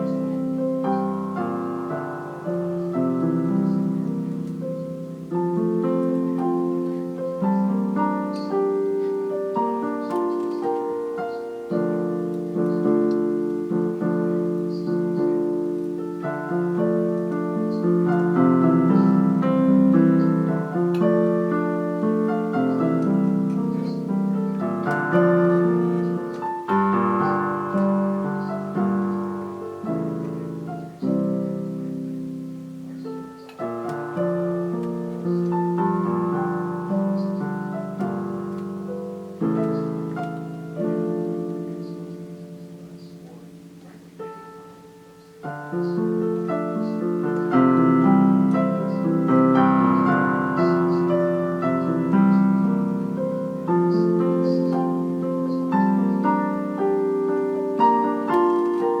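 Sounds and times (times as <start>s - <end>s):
slow solo piano chords: 0.0s - 59.0s.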